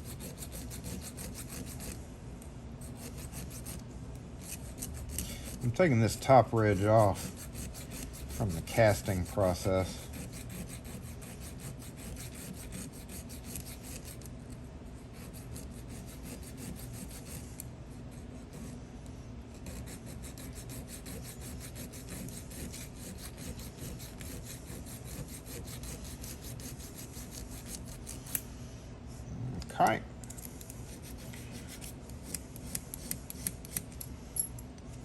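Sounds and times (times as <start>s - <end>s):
hand file on iron: 0.0s - 2.0s, 2.8s - 3.8s, 4.4s - 14.3s, 15.2s - 18.8s, 19.5s - 28.4s, 30.9s - 33.9s.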